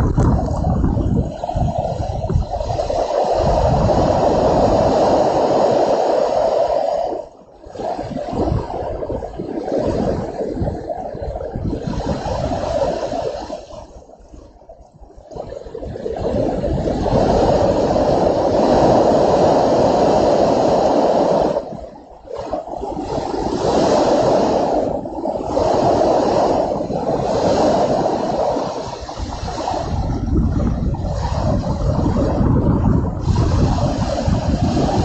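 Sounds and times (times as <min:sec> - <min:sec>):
storm wind gusting: 0:00.0 - 0:35.0.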